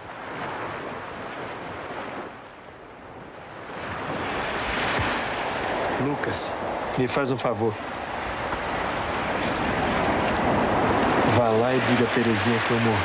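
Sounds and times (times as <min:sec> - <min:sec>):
sea waves washing in: 0:00.0 - 0:13.0.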